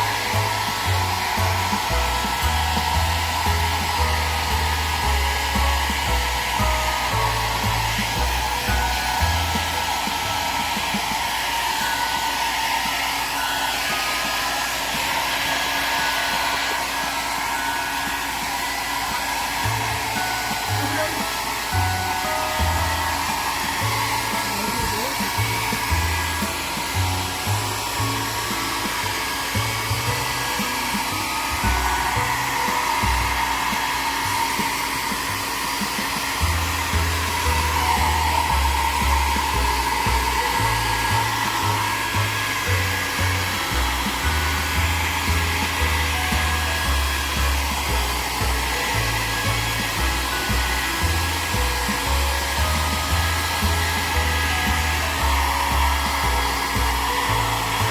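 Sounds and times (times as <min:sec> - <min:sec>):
hair dryer blowing: 0:00.0 - 0:57.9.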